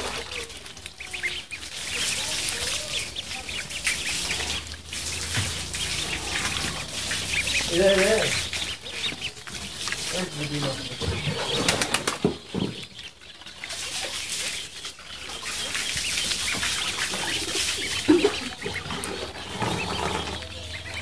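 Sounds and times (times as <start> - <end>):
ducklings peeping: 0.0 - 21.0
ducklings splashing in water: 0.0 - 21.0.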